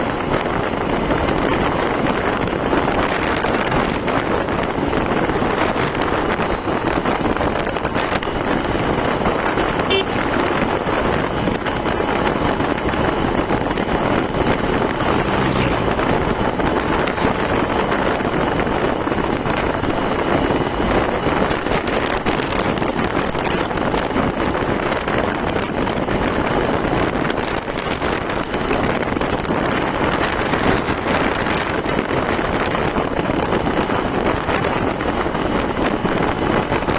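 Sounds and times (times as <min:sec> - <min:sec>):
road and traffic noise: 0:00.0 - 0:36.9
wind rushing over microphone: 0:00.0 - 0:36.9.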